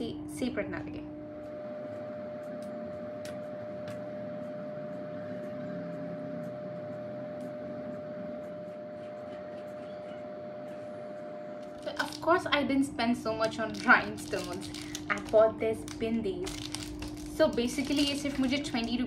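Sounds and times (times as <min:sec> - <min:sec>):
room hum tone: 0:00.0 - 0:19.0.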